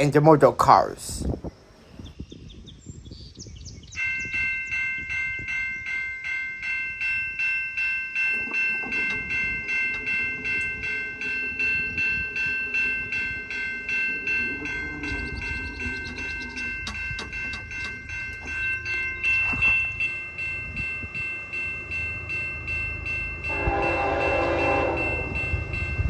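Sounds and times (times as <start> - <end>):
freight train rumble: 0.0 - 26.0
railroad crossing bell ringing: 3.9 - 26.0.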